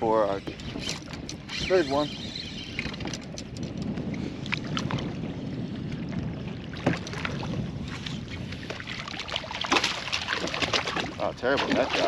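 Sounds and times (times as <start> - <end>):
light knocks and clicks from boat: 0.0 - 12.0
rustle of water and wind: 0.0 - 12.0.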